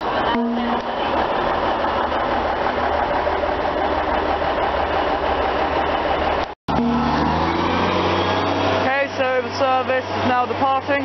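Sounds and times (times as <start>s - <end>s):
diesel railcar engine idling: 0.0s - 7.6s, 8.4s - 11.0s.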